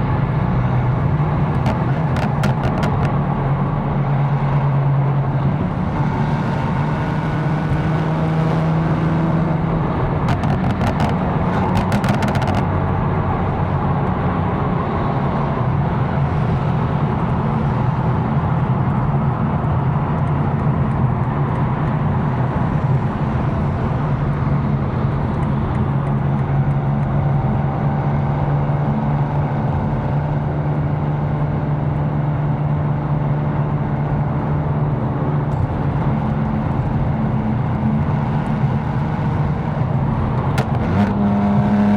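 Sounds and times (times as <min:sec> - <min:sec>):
car engine cruising: 0:00.0 - 0:41.9
tyre and road noise: 0:00.0 - 0:41.9.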